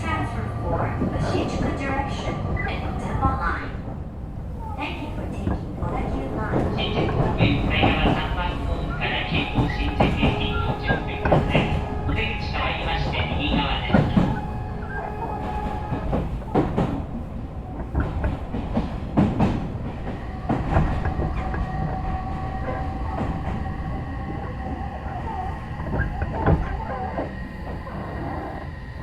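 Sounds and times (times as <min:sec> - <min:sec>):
electric train rumbling and whining: 0:00.0 - 0:29.0
wheels clunking on rail joints: 0:00.0 - 0:29.0.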